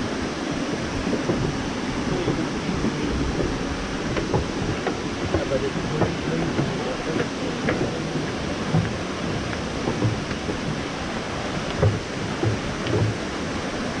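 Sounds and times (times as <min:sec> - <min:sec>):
water rushing over falls: 0:00.0 - 0:14.0
faint knocks: 0:01.2 - 0:13.3.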